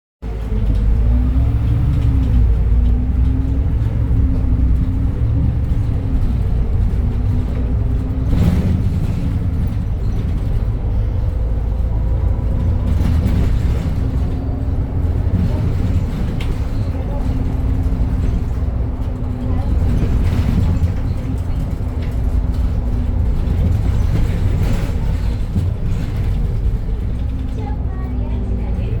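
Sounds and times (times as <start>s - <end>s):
bus engine rumbling: 0.2s - 29.0s.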